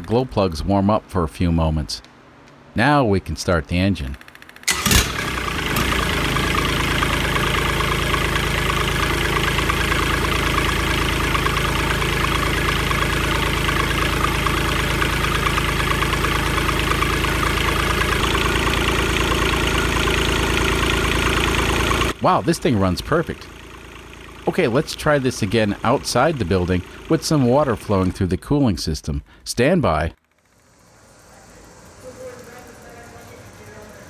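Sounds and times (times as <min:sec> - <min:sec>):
diesel engine idling: 0:04.0 - 0:28.6, 0:30.4 - 0:34.0.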